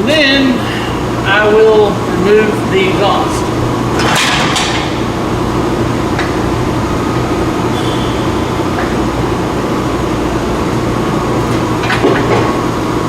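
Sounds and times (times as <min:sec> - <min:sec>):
machine hum with rushing noise: 0:00.0 - 0:13.0.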